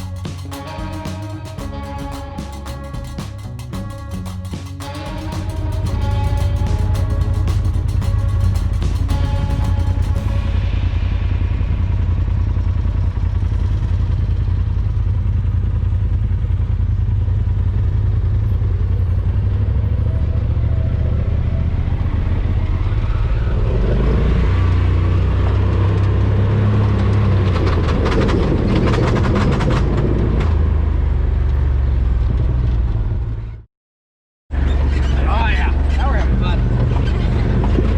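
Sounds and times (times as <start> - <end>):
utv engine running: 0.0 - 33.5.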